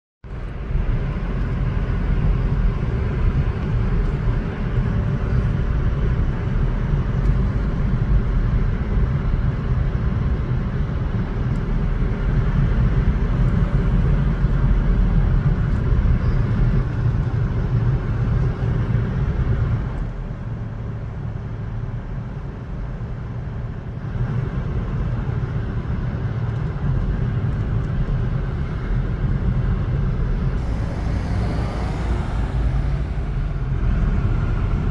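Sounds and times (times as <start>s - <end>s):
car and van engines driving slowly: 0.2s - 34.9s
heavy low rumble: 0.2s - 34.9s.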